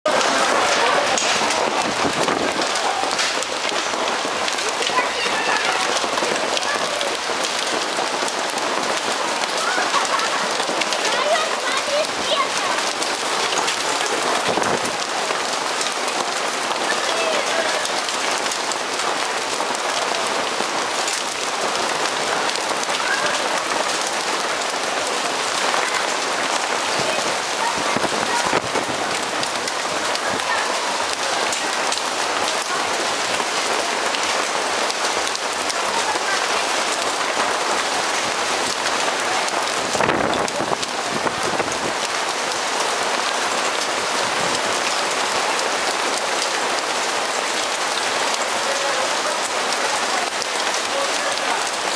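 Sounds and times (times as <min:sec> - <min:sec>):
hail and rain falling: 0:00.0 - 0:51.9.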